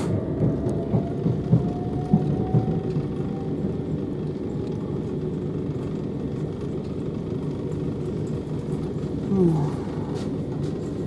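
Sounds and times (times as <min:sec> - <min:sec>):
train running noise from inside: 0:00.0 - 0:11.0.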